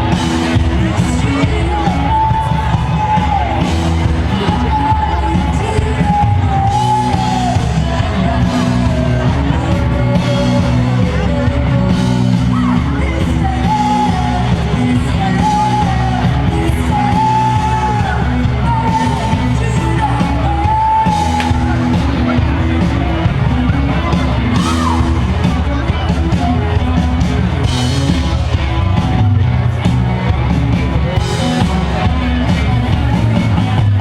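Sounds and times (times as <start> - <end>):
live rock band playing: 0.0 - 34.0
person singing: 0.0 - 34.0.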